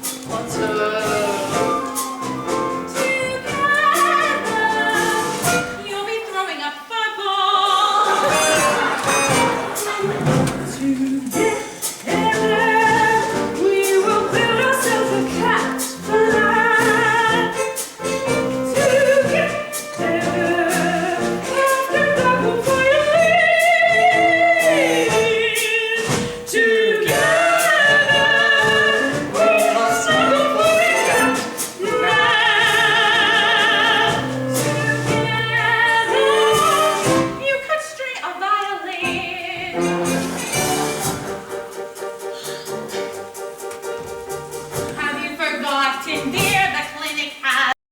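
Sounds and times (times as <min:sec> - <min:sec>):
instrumental accompaniment: 0:00.0 - 0:06.0, 0:08.1 - 0:37.6, 0:39.0 - 0:47.2
person singing with vibrato: 0:00.0 - 0:08.8, 0:10.0 - 0:41.0.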